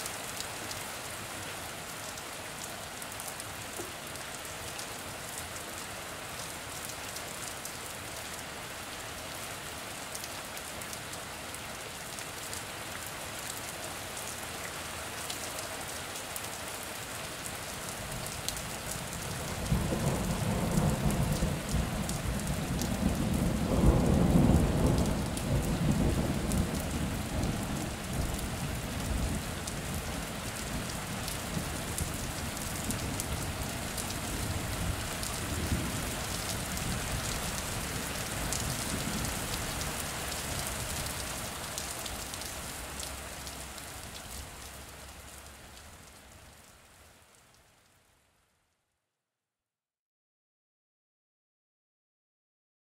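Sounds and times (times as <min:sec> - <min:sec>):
steady rain: 0:00.0 - 0:48.7.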